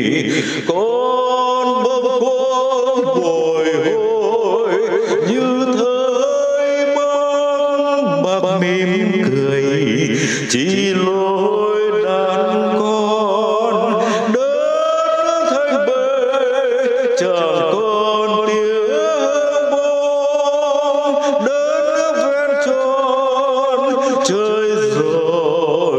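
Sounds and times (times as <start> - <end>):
person singing long wavering notes: 0.0 - 25.9.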